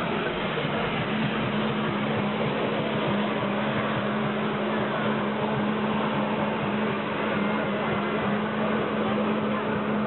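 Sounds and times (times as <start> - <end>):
jet-ski engine running: 0.0 - 10.0
water jets rushing: 0.0 - 10.0.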